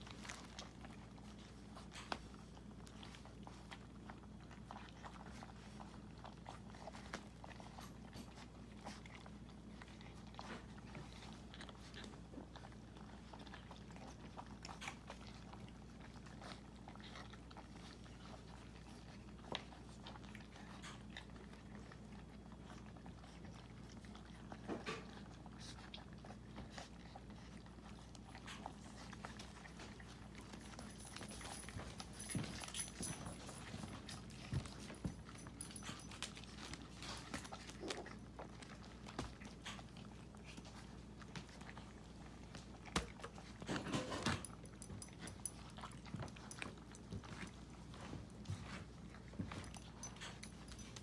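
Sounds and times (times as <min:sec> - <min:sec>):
low steady hum: 0:00.0 - 0:51.0
puppies crunching kibble: 0:00.0 - 0:51.0.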